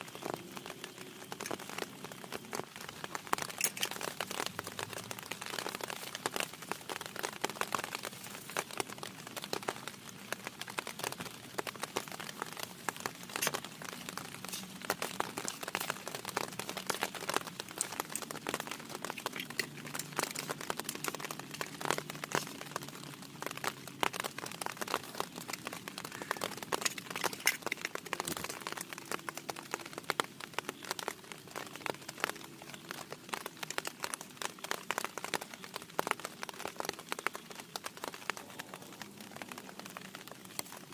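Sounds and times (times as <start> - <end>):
heavy rain on tent fabric: 0.0 - 40.9.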